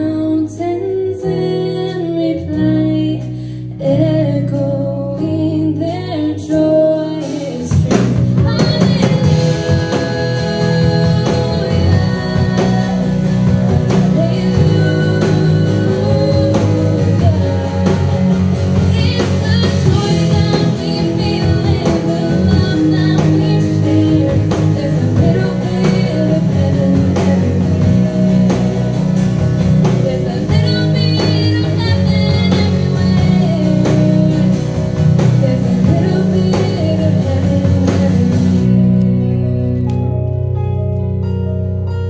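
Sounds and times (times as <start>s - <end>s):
young woman singing: 0.0s - 29.0s, 29.7s - 40.2s
live band playing pop ballad: 0.0s - 42.0s.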